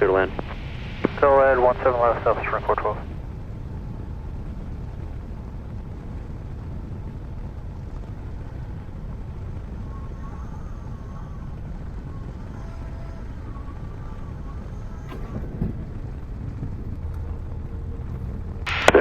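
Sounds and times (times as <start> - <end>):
aircraft engine and airflow rumble: 0.0 - 19.0.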